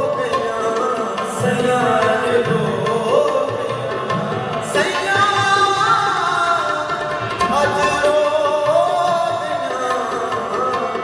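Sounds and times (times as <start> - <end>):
harmonium melody: 0.0 - 11.0
man singing: 0.0 - 11.0
tabla drumming: 0.0 - 11.0.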